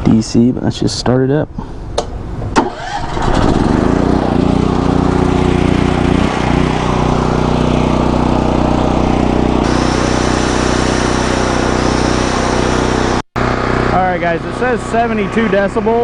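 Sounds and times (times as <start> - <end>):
generator engine starting and running: 2.1 - 16.0.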